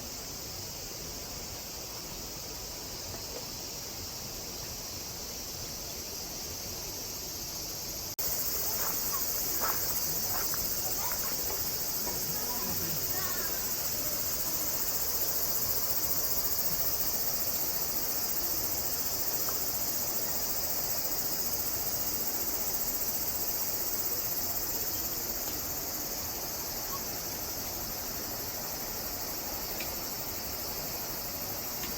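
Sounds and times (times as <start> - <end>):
insects chorus: 0.0 - 31.9.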